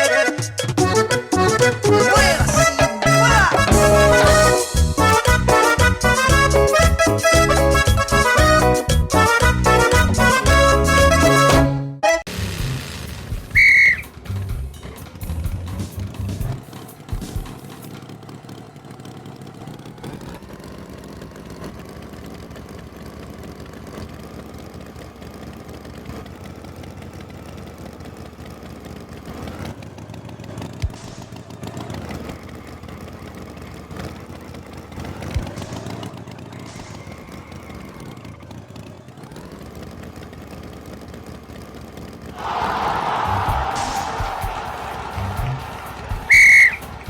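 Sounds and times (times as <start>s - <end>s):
engine idling: 0.0s - 11.6s, 12.4s - 47.0s.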